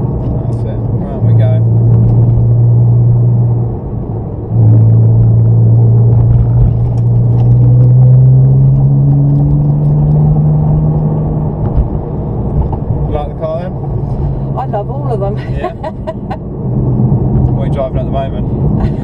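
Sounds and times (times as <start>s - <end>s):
sports car engine from inside cabin: 0.0s - 19.0s.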